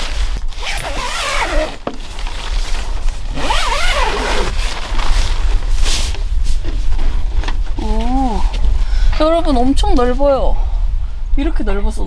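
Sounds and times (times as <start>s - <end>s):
low rumble: 2.0s - 12.0s.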